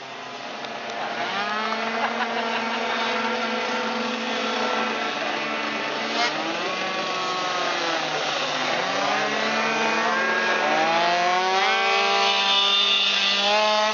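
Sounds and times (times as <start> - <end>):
racing scooter engines: 0.0 - 13.9.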